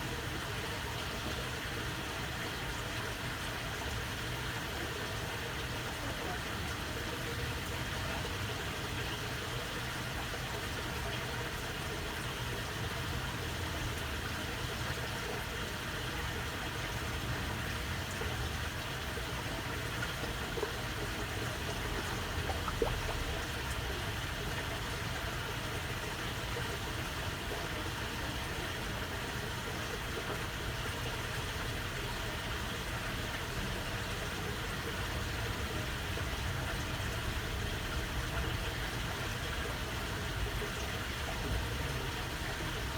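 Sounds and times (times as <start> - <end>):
water channel babbling: 0.0 - 42.9.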